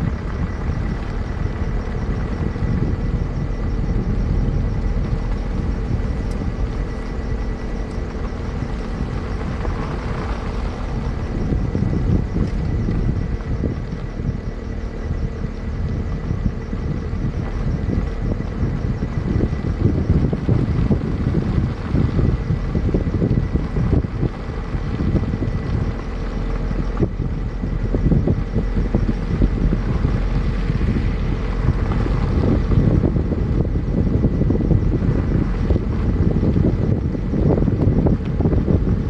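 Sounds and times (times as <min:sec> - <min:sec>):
vehicle rumble on road: 0:00.0 - 0:39.0
wind buffeting microphone: 0:00.0 - 0:39.0.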